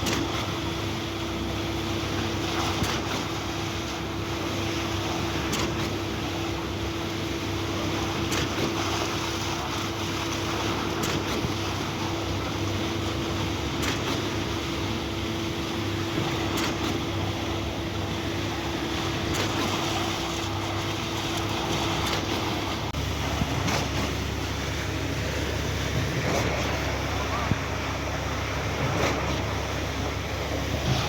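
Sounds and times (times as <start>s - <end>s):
concrete pump running: 0.0s - 31.0s.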